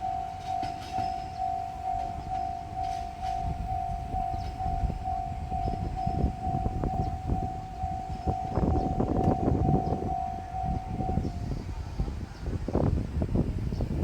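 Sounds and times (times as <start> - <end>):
train wheel knocks: 0.0 - 11.4
level crossing warning bell: 0.0 - 12.3
diesel train rumble: 0.0 - 14.0.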